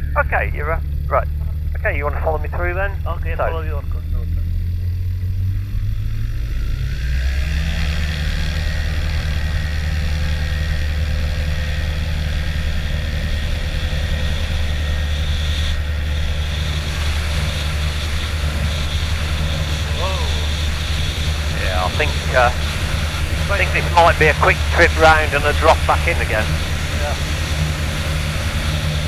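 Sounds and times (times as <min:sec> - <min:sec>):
piston engine and propeller: 0:00.0 - 0:29.0.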